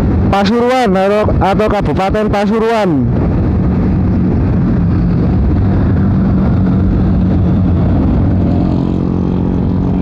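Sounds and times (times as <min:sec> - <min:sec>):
motorcycle engine hum: 0:00.0 - 0:10.0
wind and road noise: 0:00.0 - 0:10.0.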